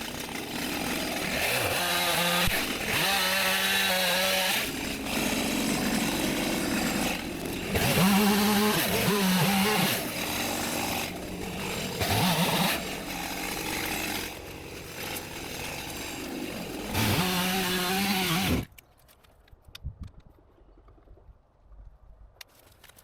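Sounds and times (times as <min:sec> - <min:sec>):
chainsaw cutting: 0:00.0 - 0:18.7.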